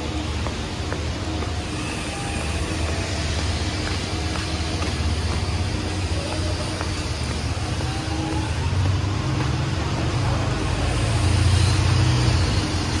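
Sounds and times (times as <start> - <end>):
bus engine rumble: 0.0 - 13.0
traffic noise: 0.0 - 13.0.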